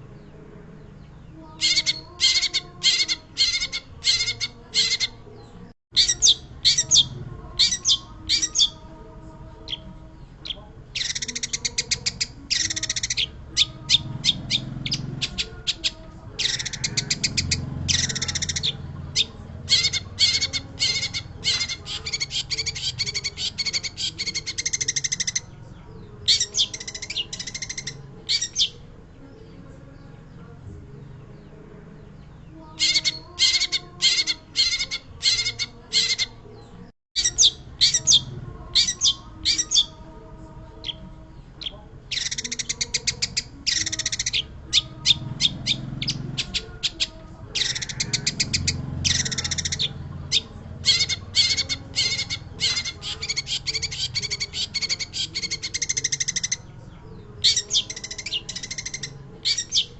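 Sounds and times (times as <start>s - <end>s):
bird scratchy chattering song: 1.1s - 8.9s, 9.6s - 28.9s, 32.6s - 36.4s, 37.2s - 40.1s, 40.8s - 59.9s.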